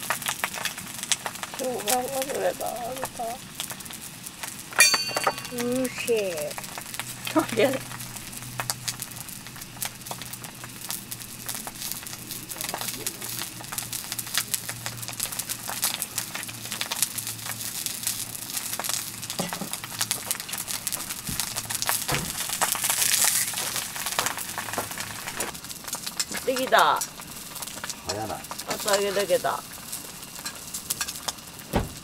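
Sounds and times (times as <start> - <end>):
tofu sizzling in oil: 0.0 - 31.7.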